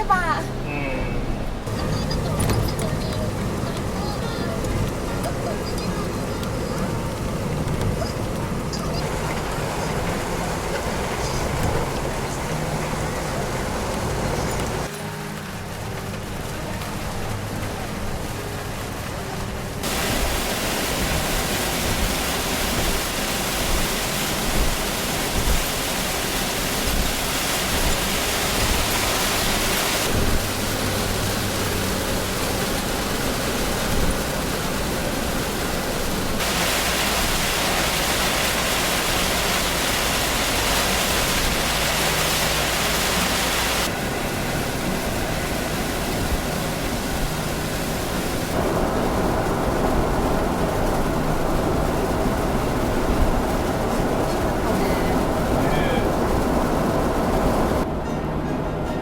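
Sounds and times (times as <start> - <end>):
heavy rain and tyre spray: 0.0 - 58.0.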